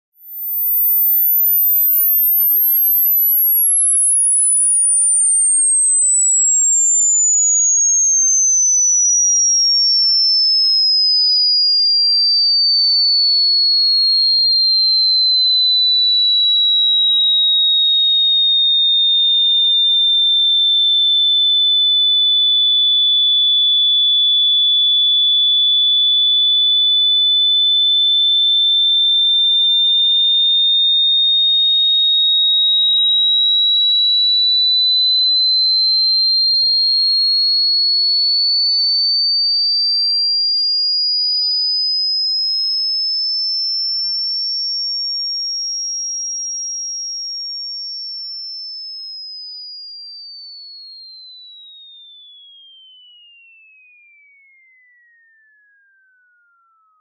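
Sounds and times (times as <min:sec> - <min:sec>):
high-pitched sine tone: 0:00.1 - 0:53.4.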